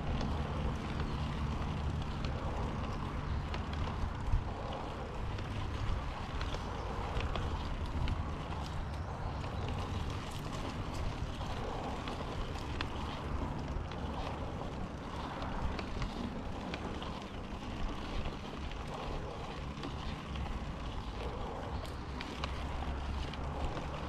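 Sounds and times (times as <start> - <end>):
bike clicks and rattles: 0.0 - 24.0
bike tyres rolling on dirt: 0.0 - 24.0
wind rumbling on microphone: 0.0 - 24.0.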